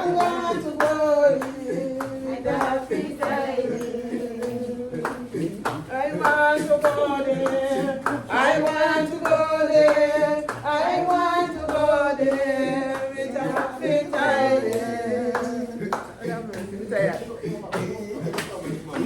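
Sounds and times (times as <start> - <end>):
group singing together: 0.0 - 19.0
hand clapping: 0.0 - 19.0.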